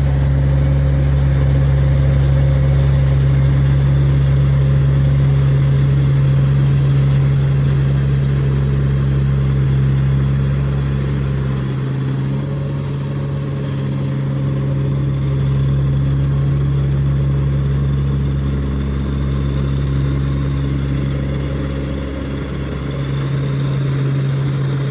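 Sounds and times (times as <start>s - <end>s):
combine harvester engine running: 0.0s - 24.9s.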